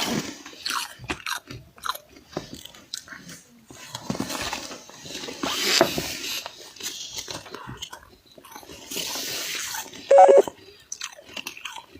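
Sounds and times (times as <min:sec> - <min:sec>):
frost crunching while chewed: 0:00.0 - 0:05.3, 0:06.3 - 0:11.9.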